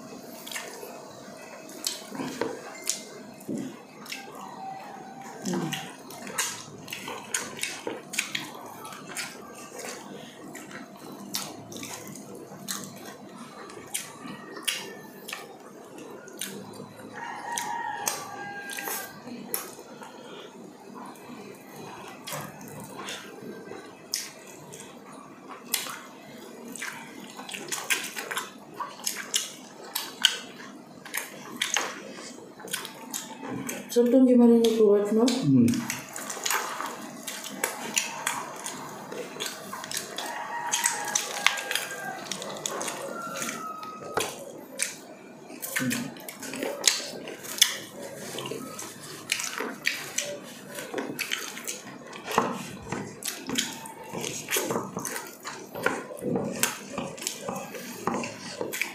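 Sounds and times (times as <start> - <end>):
wet chewing and lip smacks: 0.3 - 20.2, 21.0 - 33.9, 34.6 - 58.9.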